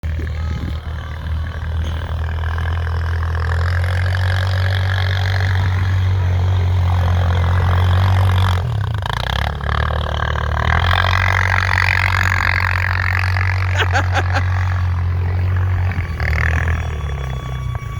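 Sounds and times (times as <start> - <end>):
atv engine running: 0.0 - 17.9.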